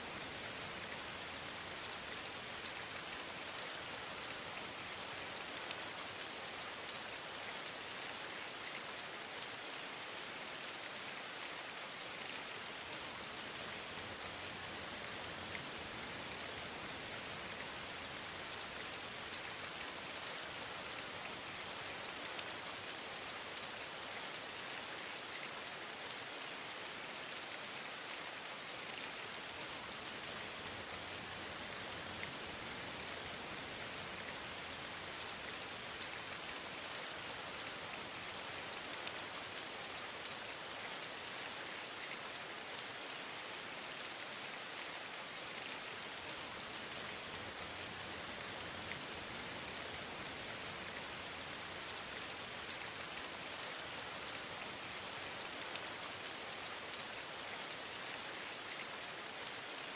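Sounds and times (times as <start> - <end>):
steady rain patter: 0.0 - 59.9.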